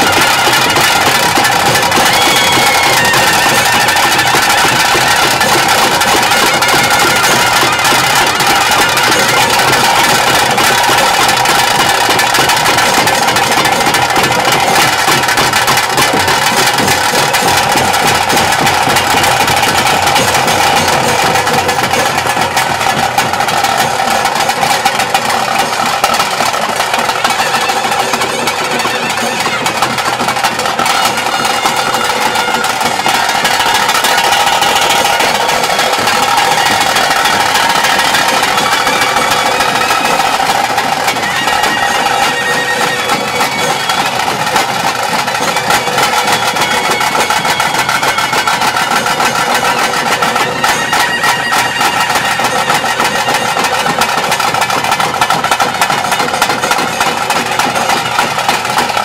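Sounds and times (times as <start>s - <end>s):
fast drums beating: 0.0s - 59.0s
wind instrument long notes: 0.0s - 59.0s.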